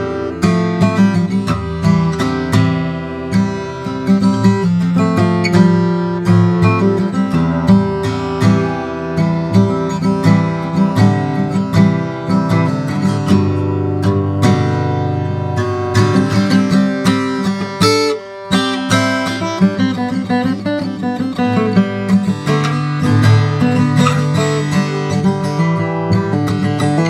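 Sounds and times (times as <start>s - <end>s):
acoustic guitar played solo: 0.0s - 27.0s.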